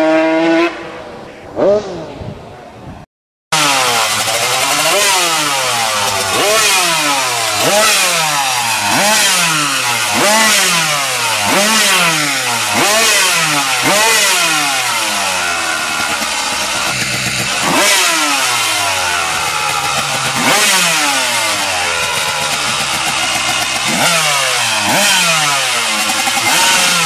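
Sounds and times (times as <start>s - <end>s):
two-stroke engine revving: 0.0s - 0.8s, 3.5s - 27.0s.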